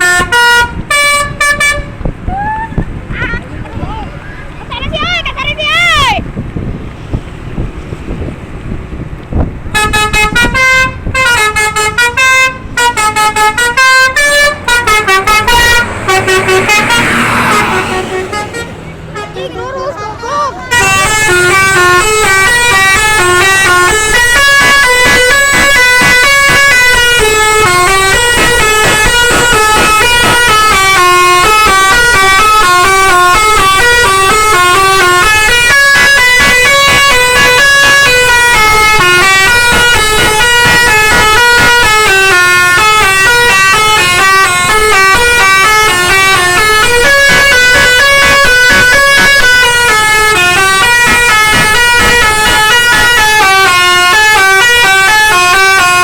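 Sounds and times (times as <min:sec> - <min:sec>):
musical horn melody: 0:00.0 - 0:02.0, 0:09.7 - 0:56.0.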